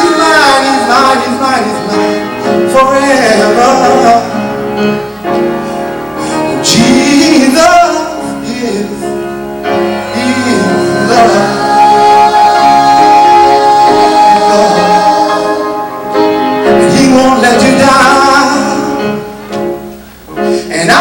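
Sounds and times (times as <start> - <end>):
gospel singing voices: 0.0 - 19.4, 20.3 - 21.0
instrumental accompaniment: 0.0 - 20.7.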